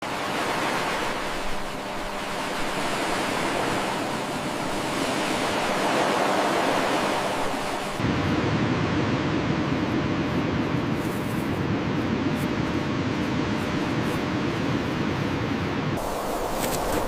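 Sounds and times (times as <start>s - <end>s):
low rushing noise: 0.0s - 17.0s
steady rushing noise: 0.0s - 17.0s.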